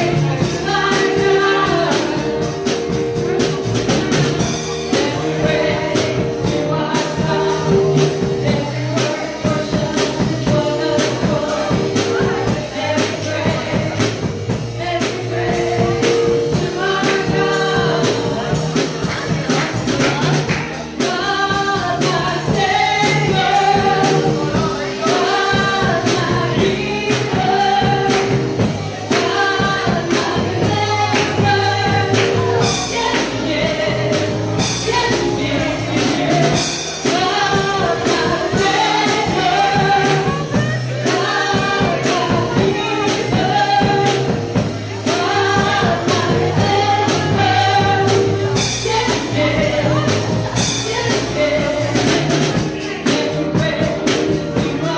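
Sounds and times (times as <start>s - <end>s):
band with steady drum beat: 0.0s - 54.9s
voices singing gospel: 0.0s - 54.9s.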